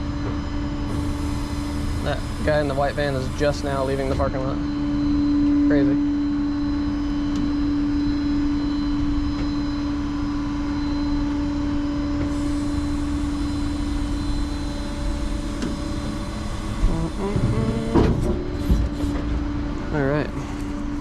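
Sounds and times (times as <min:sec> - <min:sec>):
truck engine drone: 0:00.0 - 0:10.1, 0:12.2 - 0:21.0
constant hum: 0:00.0 - 0:21.0.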